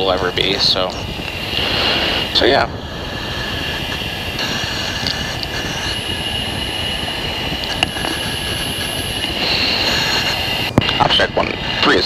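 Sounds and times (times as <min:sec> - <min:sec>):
jet engine and airflow rush: 0:00.0 - 0:12.0
thin high whine: 0:00.0 - 0:12.0.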